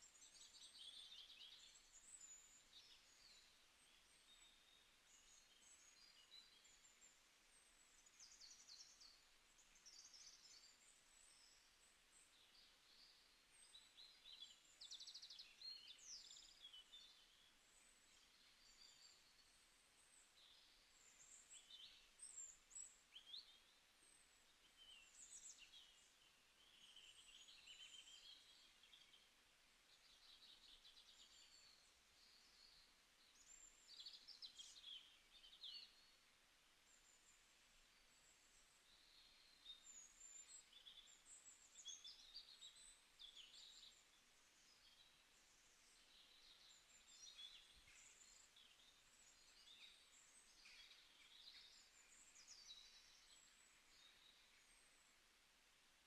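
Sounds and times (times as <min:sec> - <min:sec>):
low background hiss: 0:00.0 - 0:56.0
small birds chirping and trilling: 0:00.0 - 0:56.0.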